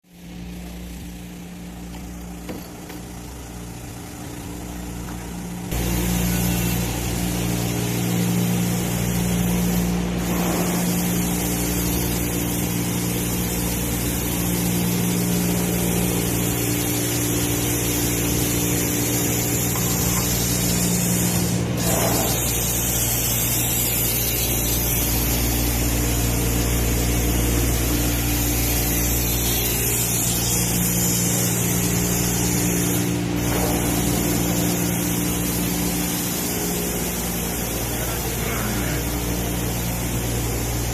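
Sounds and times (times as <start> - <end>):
machinery electric hum: 0.1 - 40.9.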